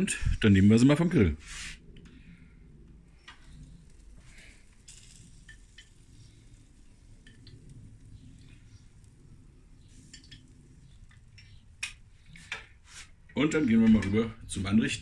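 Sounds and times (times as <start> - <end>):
low background rumble: 0.0 - 12.3.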